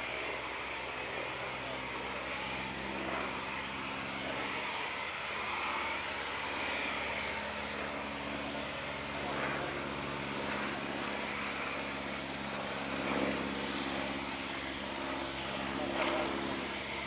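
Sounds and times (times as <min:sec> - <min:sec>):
biplane radial engine flying overhead: 0:00.0 - 0:17.0.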